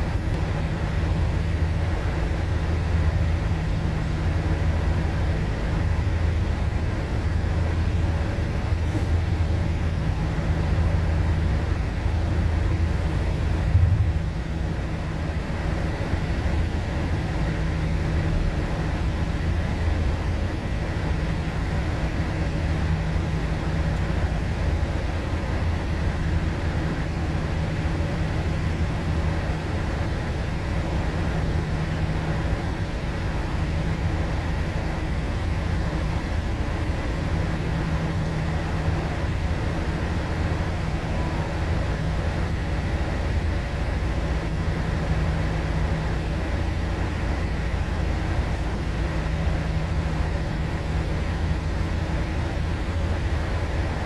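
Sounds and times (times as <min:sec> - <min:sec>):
bus engine drone: 0:00.0 - 0:54.0
road noise: 0:00.0 - 0:54.0.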